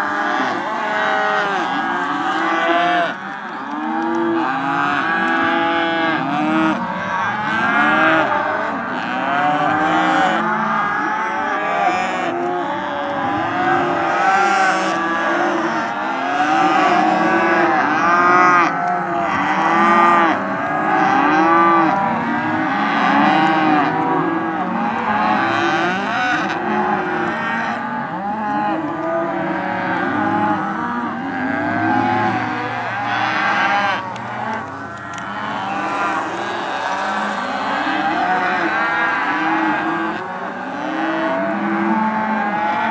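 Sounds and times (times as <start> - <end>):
calves mooing in chorus: 0.0 - 42.9.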